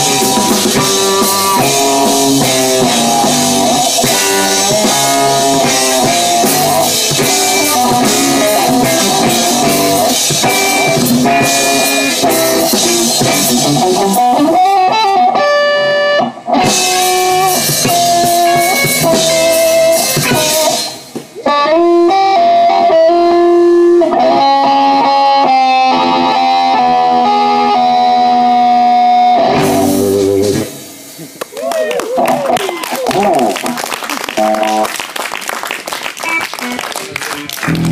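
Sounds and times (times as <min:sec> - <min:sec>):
drums: 0:00.0 - 0:37.9
guitar: 0:00.0 - 0:37.9.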